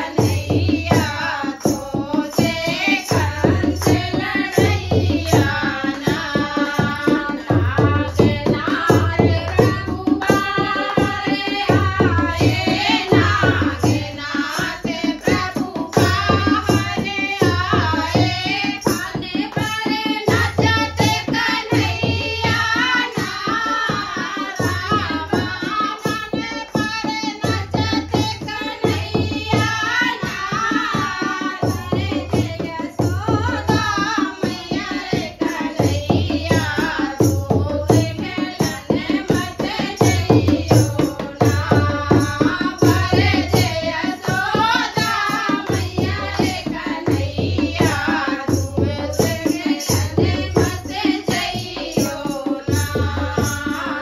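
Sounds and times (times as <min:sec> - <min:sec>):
drum beating steady rhythm: 0:00.0 - 0:54.0
women singing folk song: 0:00.0 - 0:54.0.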